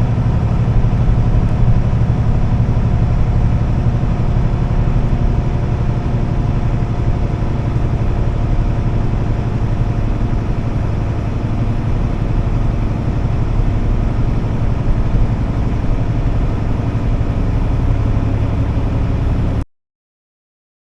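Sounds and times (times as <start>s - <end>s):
road noise: 0.0s - 19.6s
truck engine droning: 0.0s - 19.6s.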